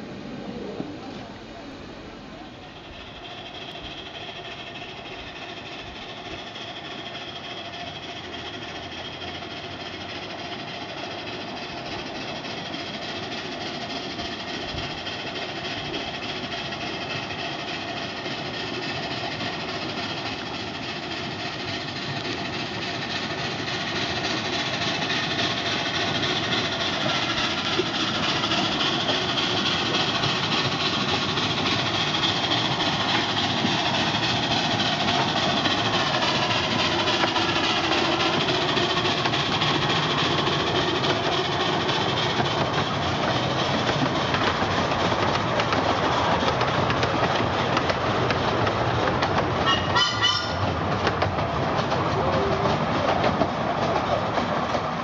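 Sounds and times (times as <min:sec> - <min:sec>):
miniature steam train running: 0:00.0 - 0:55.0.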